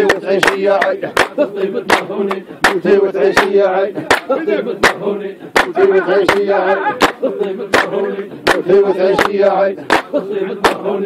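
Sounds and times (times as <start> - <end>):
sharp handclaps: 0.0 - 5.0, 5.6 - 10.9
men singing folk chant: 0.0 - 11.0.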